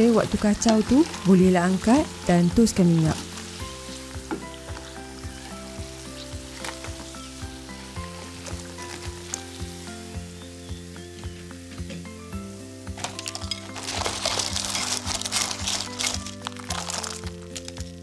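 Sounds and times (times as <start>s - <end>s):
background music with steady beat: 0.0s - 18.0s
hot oil sizzling: 0.0s - 18.0s.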